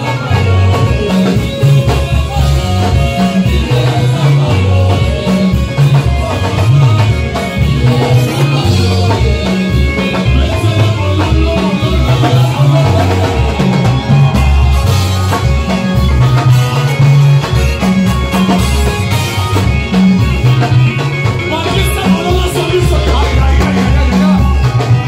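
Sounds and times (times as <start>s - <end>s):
drums: 0.0s - 25.0s
heavy bass line: 0.0s - 25.0s
live worship band playing: 0.0s - 25.0s.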